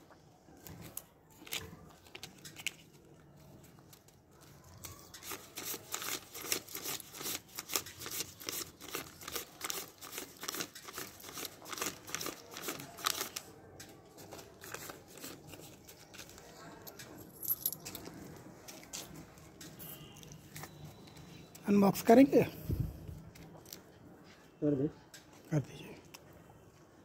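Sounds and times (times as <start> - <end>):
soft paper rustling: 0.0 - 24.6.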